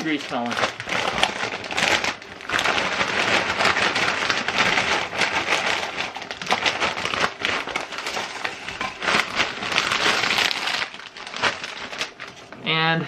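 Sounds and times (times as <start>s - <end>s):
chips rattling into bowl: 0.0s - 12.7s
bag crinkling: 0.0s - 12.8s.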